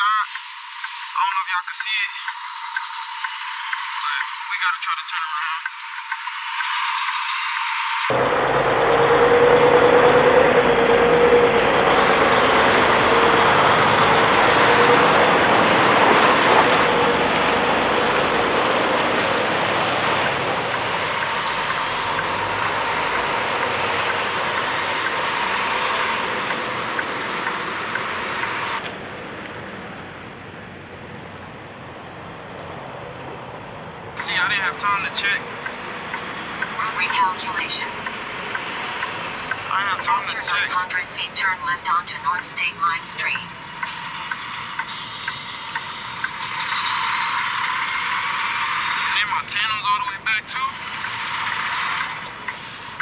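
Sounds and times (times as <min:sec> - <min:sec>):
truck driving past: 0:08.1 - 0:42.6, 0:43.4 - 0:53.0.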